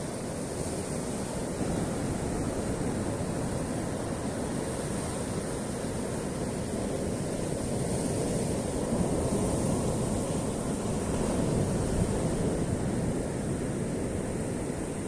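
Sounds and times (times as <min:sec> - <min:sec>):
surf washing in: 0:00.0 - 0:15.0.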